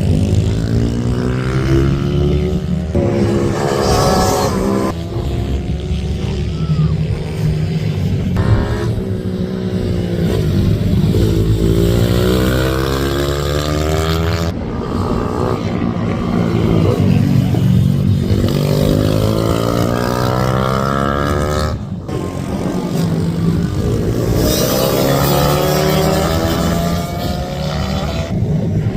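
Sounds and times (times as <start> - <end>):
minibike engines revving: 0.0 - 28.4.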